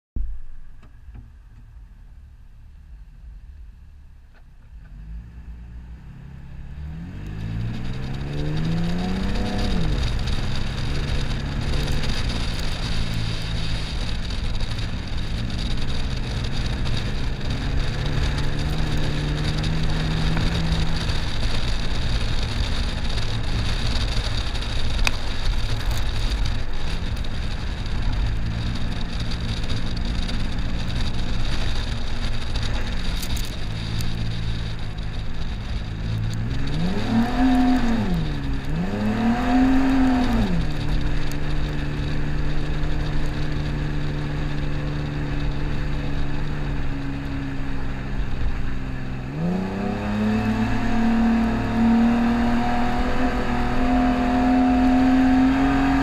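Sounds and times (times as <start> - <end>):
wind and tyre noise: 0.2 - 56.0
truck engine revving: 6.8 - 46.9, 49.2 - 56.0.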